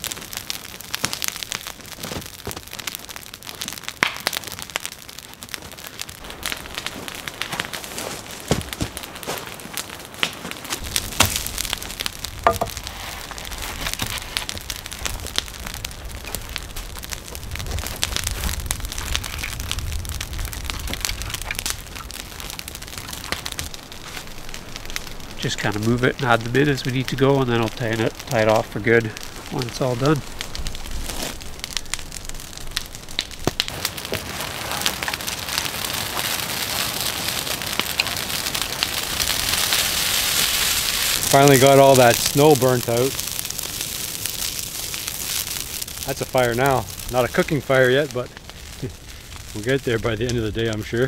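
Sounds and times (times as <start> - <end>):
brush fire crackling: 0.0 - 51.0.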